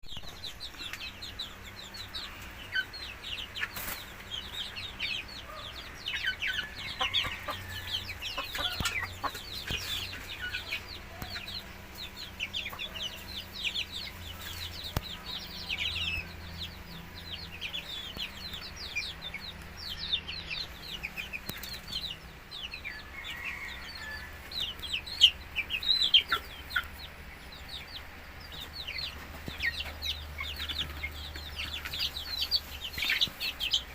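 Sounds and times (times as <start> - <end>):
chickens clucking and peeping: 0.0 - 33.9.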